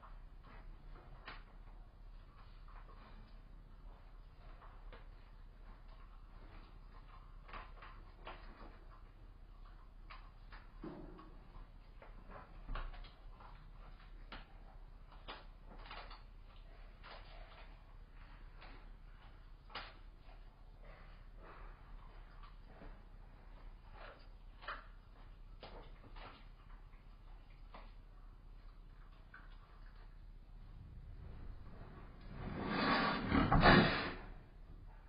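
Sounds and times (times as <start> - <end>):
animal chewing and crunching bones: 0.0 - 35.0
low electrical hum: 0.0 - 35.0.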